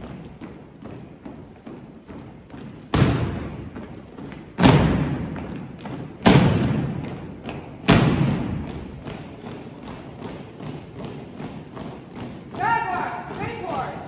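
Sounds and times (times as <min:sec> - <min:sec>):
marching footsteps: 0:00.0 - 0:14.0
stomps on wooden floor: 0:02.5 - 0:13.9.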